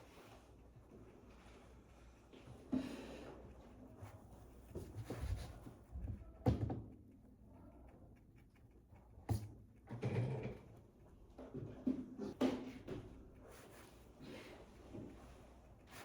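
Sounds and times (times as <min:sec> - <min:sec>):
soft rustling and handling: 0:00.0 - 0:07.8, 0:10.6 - 0:16.0.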